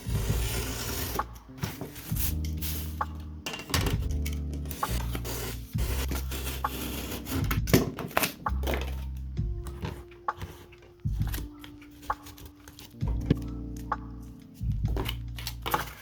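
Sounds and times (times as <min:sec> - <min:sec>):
music with sustained bass notes: 0:00.0 - 0:16.0.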